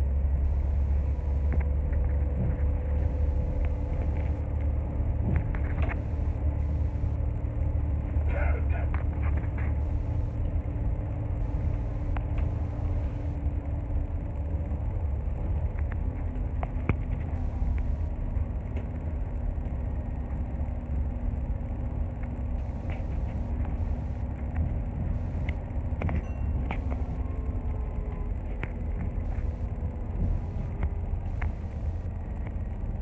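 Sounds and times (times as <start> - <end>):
bus engine and road rumble: 0.0 - 33.0
faint steady hum: 0.0 - 33.0.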